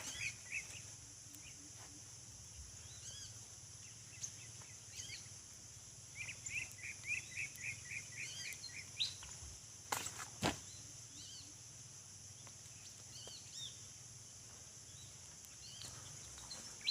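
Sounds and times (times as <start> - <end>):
small birds chirping: 0.0 - 16.9
steady high hiss: 0.0 - 16.9.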